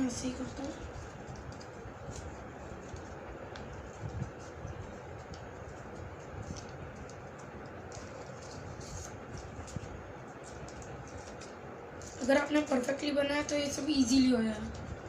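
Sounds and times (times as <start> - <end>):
paper crinkling: 0.0 - 13.0.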